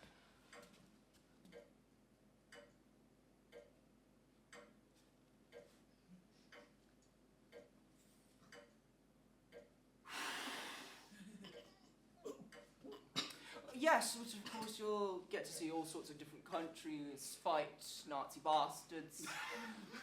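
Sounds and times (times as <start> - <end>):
faint clock ticking: 0.0 - 10.1, 11.1 - 19.0.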